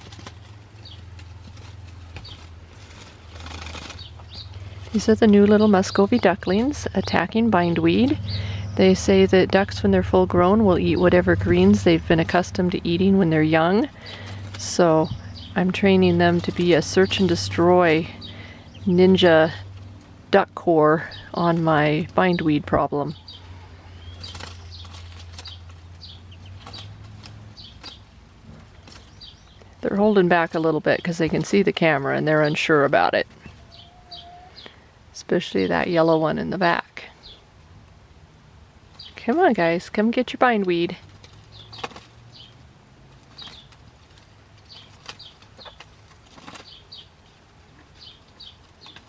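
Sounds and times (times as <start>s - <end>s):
ducklings peeping: 0.0s - 37.5s, 38.9s - 49.0s
low steady hum: 0.0s - 49.0s
rustling and pecking at leaves: 0.0s - 49.0s.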